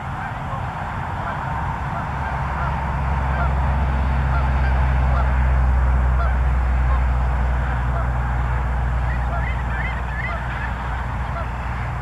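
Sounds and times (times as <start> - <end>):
distant bird calls: 0.0 - 12.0
highway traffic rumble: 0.0 - 12.0.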